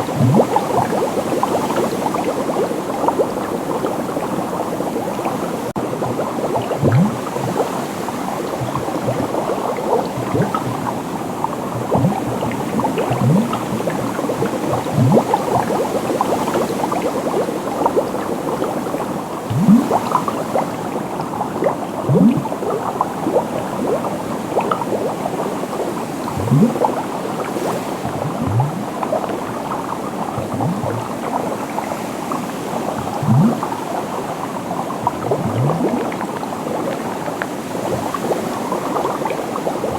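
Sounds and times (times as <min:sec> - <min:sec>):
deep bubble blooping: 0:00.0 - 0:05.2, 0:05.8 - 0:27.4, 0:28.0 - 0:37.2
water bubbling: 0:00.0 - 0:39.9.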